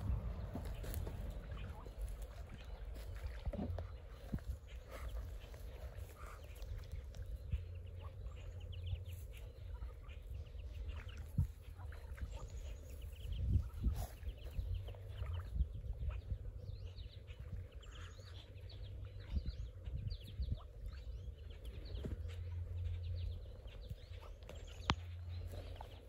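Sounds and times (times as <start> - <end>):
ducklings peeping: 0.0 - 26.0
low rumble: 0.0 - 26.0.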